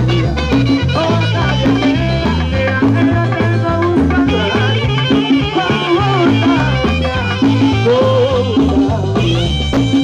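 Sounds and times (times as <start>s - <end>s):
congas: 0.0s - 10.0s
salsa dance band: 0.0s - 10.0s.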